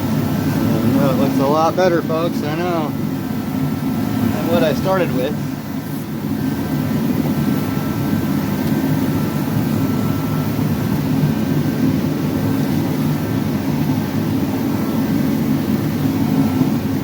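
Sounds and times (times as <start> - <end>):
faint high hum: 0.0 - 17.0
loud low mechanical drone: 0.0 - 17.0.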